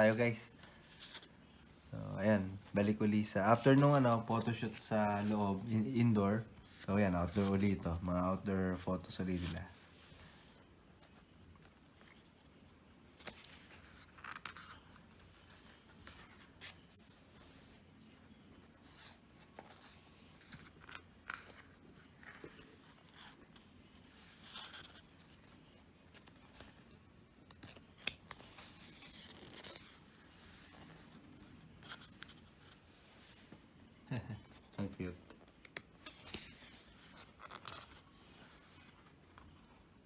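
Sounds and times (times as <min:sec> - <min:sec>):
paper pages rustling: 0:00.0 - 0:12.5, 0:13.1 - 0:40.0.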